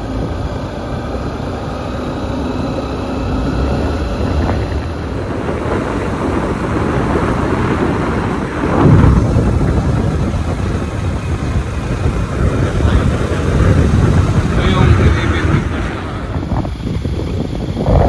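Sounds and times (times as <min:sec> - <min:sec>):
motorcycle engine running: 0:00.0 - 0:18.0
road noise: 0:00.0 - 0:18.0
wind rushing over microphone: 0:00.0 - 0:18.0.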